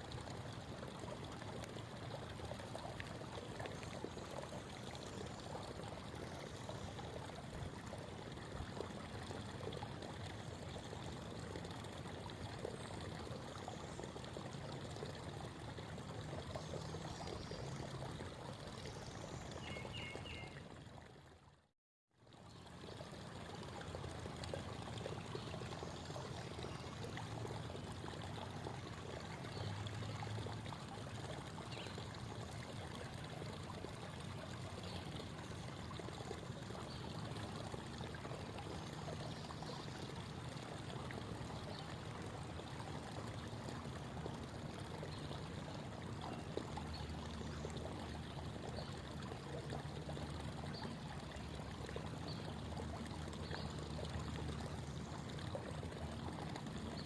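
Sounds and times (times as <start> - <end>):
creek babbling: 0.0 - 21.6, 22.2 - 57.0.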